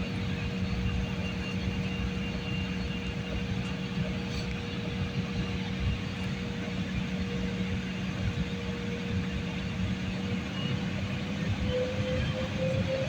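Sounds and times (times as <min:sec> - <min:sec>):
airliner engines droning: 0:00.0 - 0:13.0.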